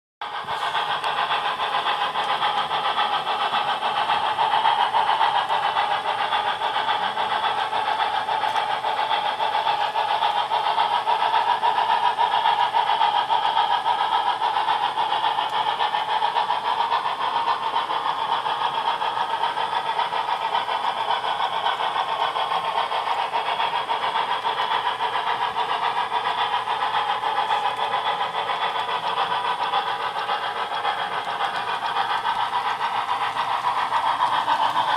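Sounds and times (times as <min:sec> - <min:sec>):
model train rolling on track: 0:00.2 - 0:34.9.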